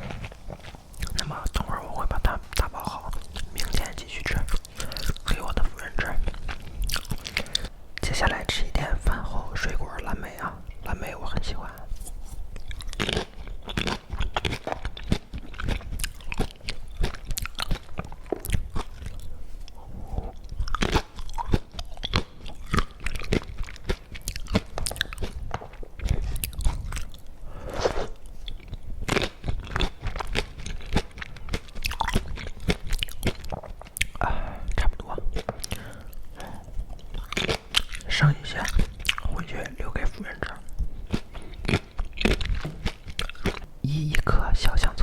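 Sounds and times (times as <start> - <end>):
person chewing crunchy food: 0.0 - 11.2, 12.0 - 45.0.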